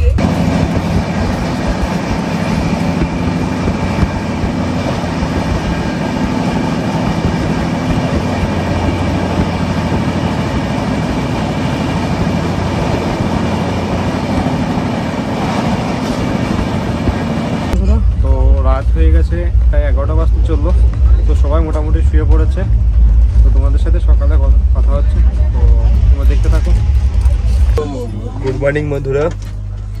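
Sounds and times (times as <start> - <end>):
train wheels rumbling on track: 0.0 - 27.8
low hum: 0.0 - 30.0.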